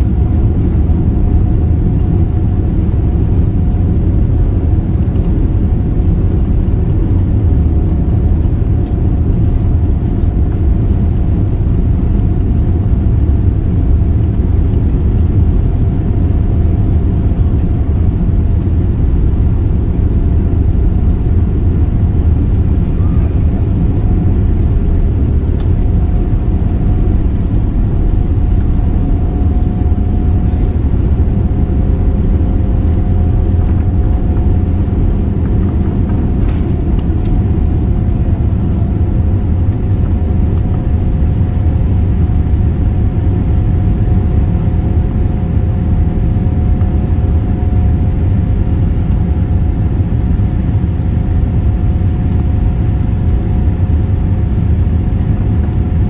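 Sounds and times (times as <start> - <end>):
faint engine whine: 0.0 - 56.0
jet engines low rumble: 0.0 - 56.0.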